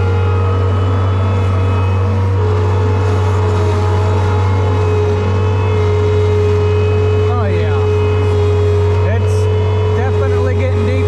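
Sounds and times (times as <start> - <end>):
skid steer engine running: 0.0 - 11.0
steady machine whine: 0.0 - 11.0.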